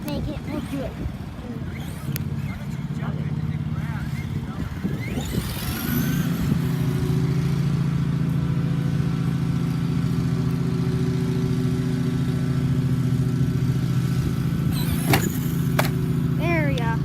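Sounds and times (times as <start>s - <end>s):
simulated engine hum: 0.0s - 17.0s.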